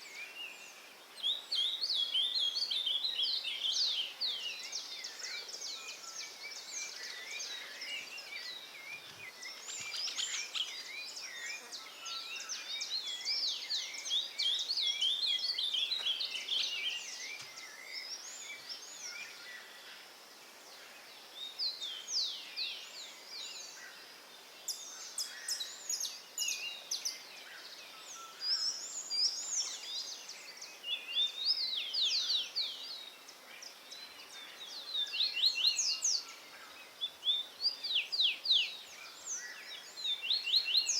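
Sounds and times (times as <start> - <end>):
wild birds singing: 0.0 - 40.9.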